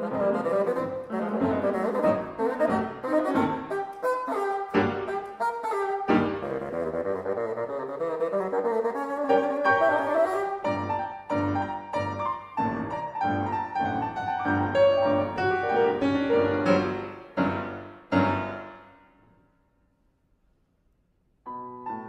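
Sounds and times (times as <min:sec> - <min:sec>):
grand piano chords: 0:00.0 - 0:07.7, 0:09.2 - 0:19.8, 0:21.4 - 0:22.0.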